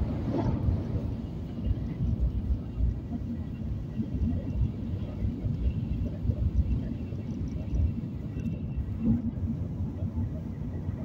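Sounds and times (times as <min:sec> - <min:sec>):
vehicle rumble inside cabin: 0:00.0 - 0:11.0.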